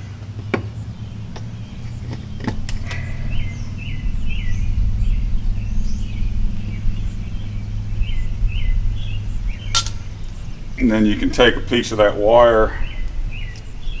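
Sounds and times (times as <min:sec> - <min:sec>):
steady low rumble: 0:00.0 - 0:14.0
bird chirping in falling calls: 0:00.3 - 0:14.0.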